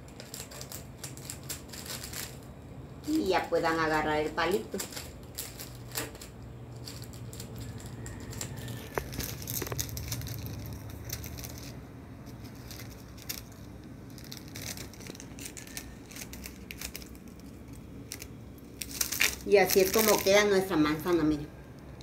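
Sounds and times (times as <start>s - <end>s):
cellophane bag crinkling: 0.0s - 21.1s
low steady hum: 0.0s - 22.0s.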